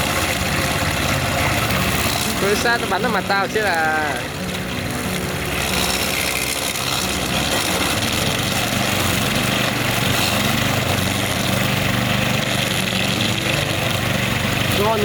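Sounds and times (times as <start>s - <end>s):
string trimmer engine running: 0.0s - 15.0s
trimmer line cutting grass: 0.0s - 15.0s.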